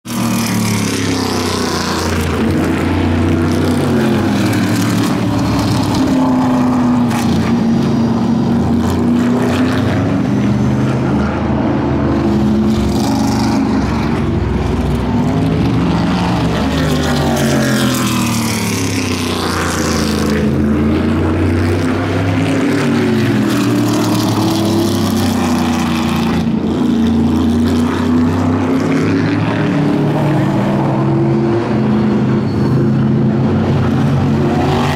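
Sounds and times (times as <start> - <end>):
race car engines lapping past: 0.0 - 34.9.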